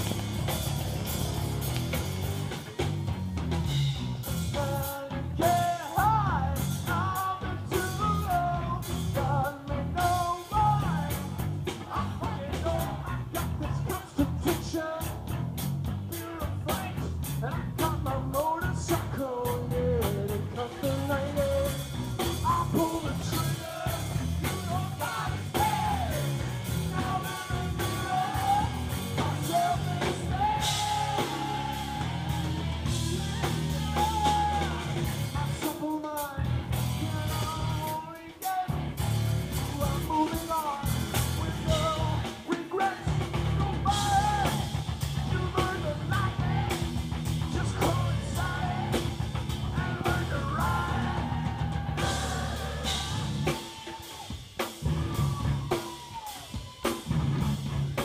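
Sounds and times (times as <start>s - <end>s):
bass guitar: 0.0s - 58.0s
drum kit: 0.0s - 58.0s
live rock band playing: 0.0s - 58.0s
person singing lead vocal: 4.2s - 15.4s, 16.0s - 57.0s.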